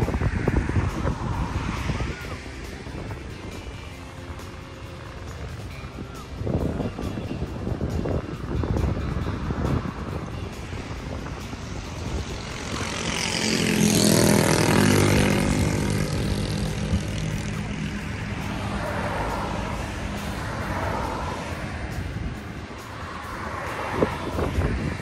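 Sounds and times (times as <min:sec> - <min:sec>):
steady traffic noise: 0:00.0 - 0:25.0
vehicle passing close by: 0:00.0 - 0:25.0.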